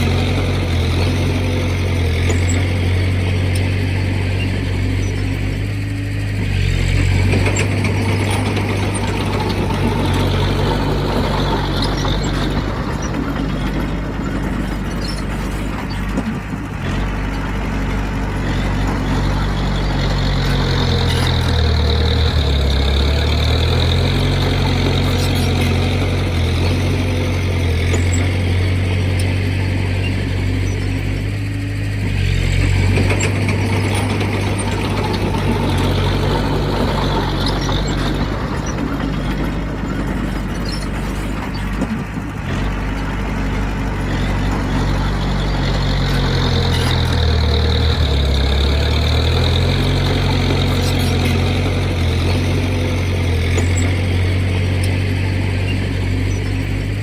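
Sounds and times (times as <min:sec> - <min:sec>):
heavy diesel engine running: 0:00.0 - 0:57.0
rough mechanical noise: 0:00.0 - 0:57.0.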